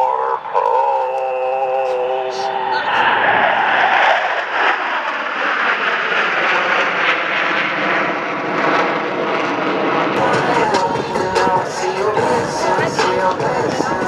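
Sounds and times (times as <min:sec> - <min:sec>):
jet aircraft roaring: 0:01.5 - 0:14.0.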